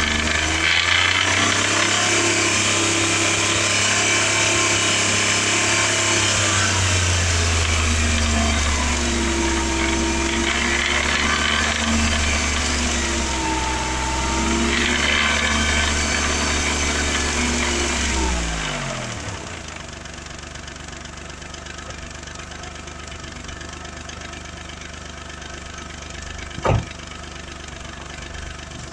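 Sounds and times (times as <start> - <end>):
car engine revving and idling: 0.0 - 28.9.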